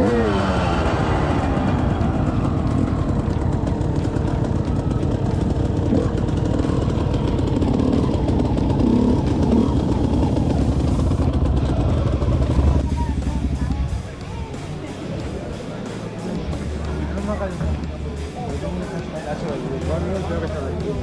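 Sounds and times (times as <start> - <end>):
motorcycle and quad engines running: 0.0 - 21.0.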